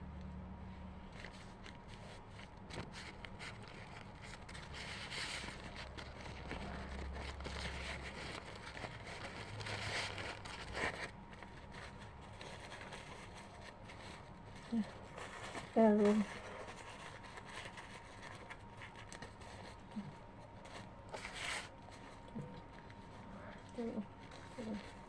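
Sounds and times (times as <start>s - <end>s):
food scraping and rustling: 1.0s - 25.0s.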